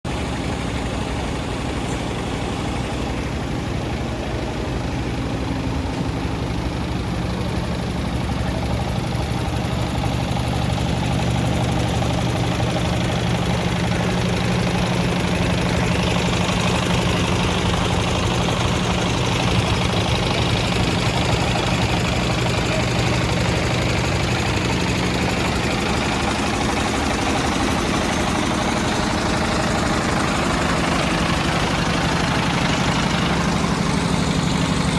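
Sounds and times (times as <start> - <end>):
truck engine idling with knock: 0.1 - 34.9.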